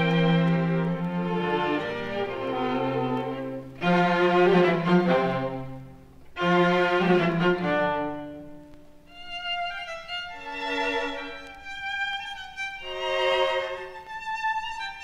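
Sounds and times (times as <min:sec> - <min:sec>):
record surface noise: 0:00.0 - 0:15.0
violin music from vinyl record: 0:00.0 - 0:15.0.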